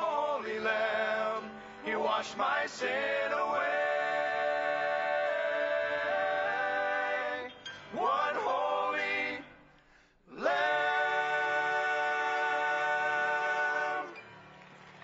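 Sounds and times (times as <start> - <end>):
male vocal group singing chords: 0.0 - 9.7, 10.3 - 14.3.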